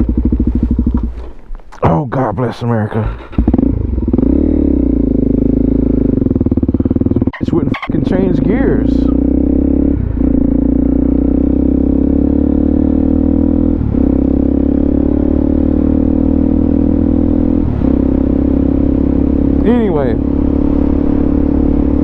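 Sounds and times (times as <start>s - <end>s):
motorcycle engine running: 0.0s - 1.5s, 3.0s - 22.0s.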